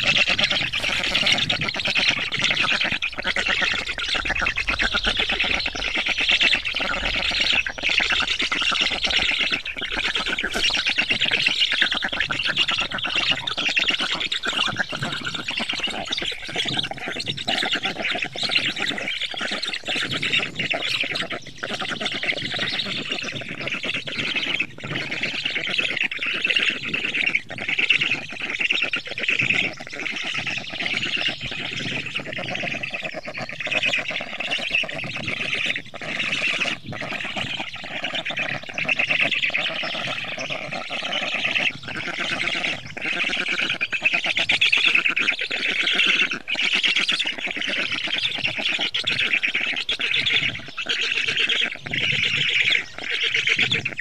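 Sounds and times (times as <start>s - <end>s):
birds chattering: 0.0s - 54.0s.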